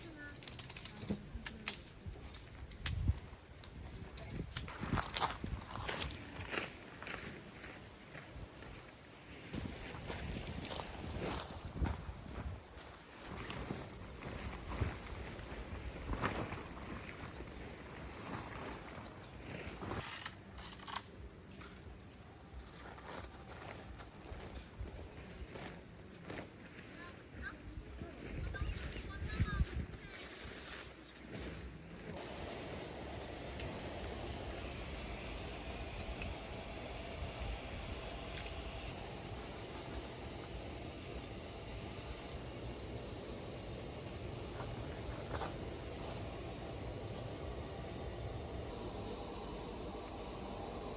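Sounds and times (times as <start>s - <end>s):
insects chirring: 0.0s - 50.9s
outdoor background hiss: 0.0s - 50.9s.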